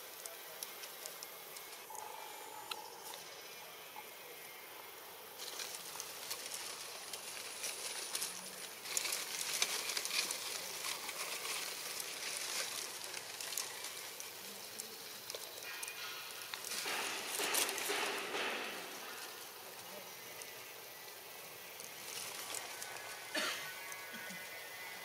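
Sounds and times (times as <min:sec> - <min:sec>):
leaves and grass rustling: 0:00.0 - 0:25.0.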